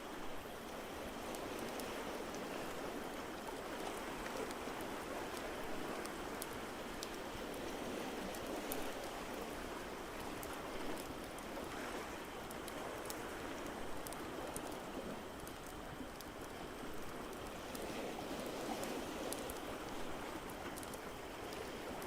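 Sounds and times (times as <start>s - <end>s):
ocean surf: 0.0s - 22.0s.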